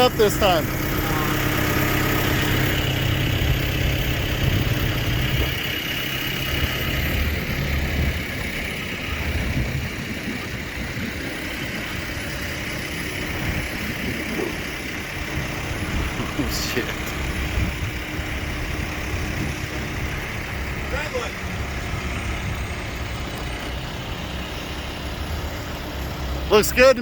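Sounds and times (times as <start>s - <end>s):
forklift engine running: 0.0s - 27.0s.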